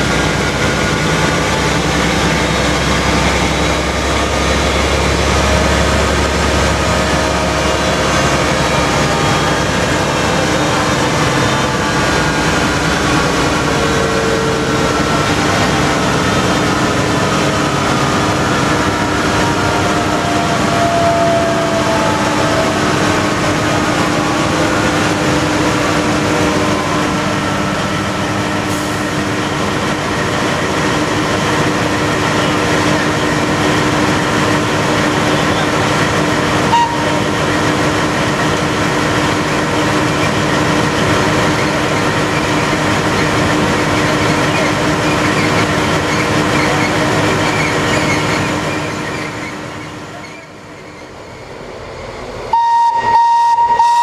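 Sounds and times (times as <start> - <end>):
diesel locomotive engines running: 0.0 - 54.0.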